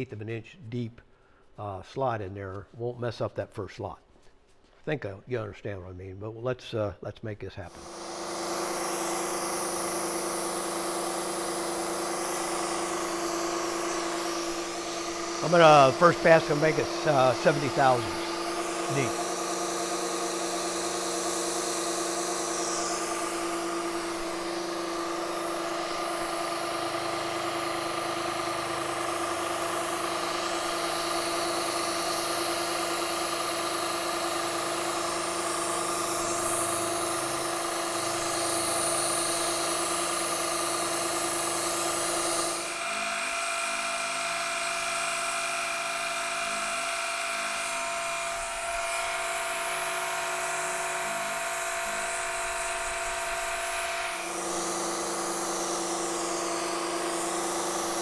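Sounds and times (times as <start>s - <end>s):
milling machine whine: 7.7s - 58.0s.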